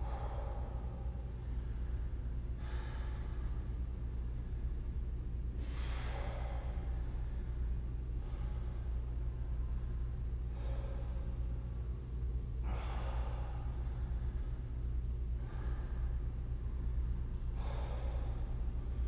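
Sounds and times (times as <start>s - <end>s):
man breathing heavily: 0.0s - 19.0s
steady low hum: 0.0s - 19.0s.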